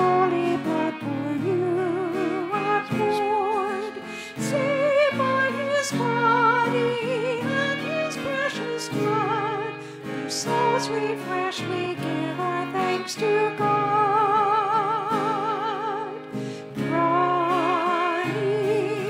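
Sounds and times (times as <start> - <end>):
instrumental accompaniment: 0.0 - 19.0
person singing with vibrato: 0.0 - 19.0.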